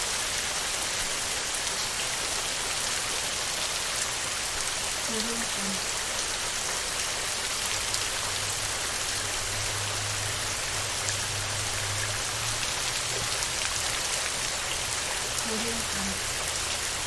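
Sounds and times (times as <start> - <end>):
heavy rain on a metal roof: 0.0 - 17.0.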